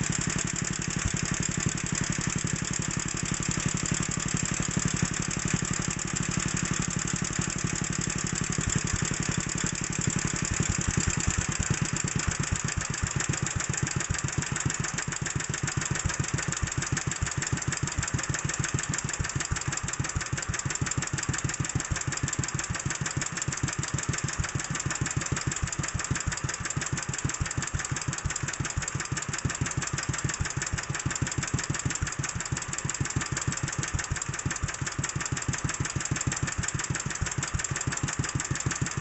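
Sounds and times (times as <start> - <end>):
small engine idling slowly: 0.0 - 39.0.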